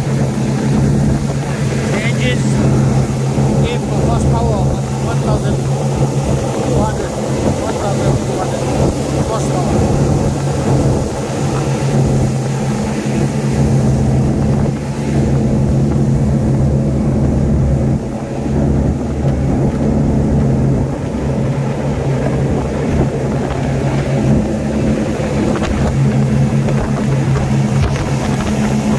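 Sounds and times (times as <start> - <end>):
outboard motors droning: 0.0 - 28.9
rush of wind and water: 0.0 - 28.9.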